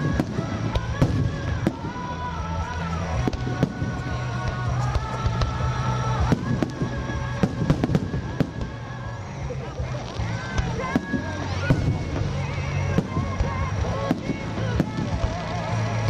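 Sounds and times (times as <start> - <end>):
fireworks bangs: 0.0 - 16.0
music playing: 0.0 - 16.0.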